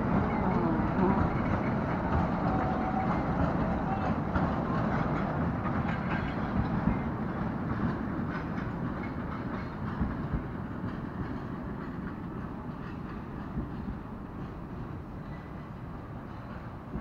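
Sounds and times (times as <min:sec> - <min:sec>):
steam train rumbling past: 0:00.0 - 0:17.0
wheels clattering on rails: 0:00.0 - 0:17.0.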